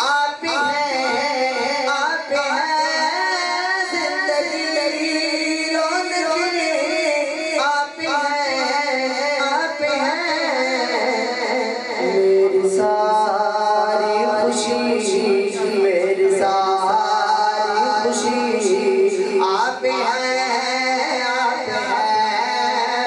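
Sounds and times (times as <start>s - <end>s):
man singing over pa system: 0.0s - 23.0s.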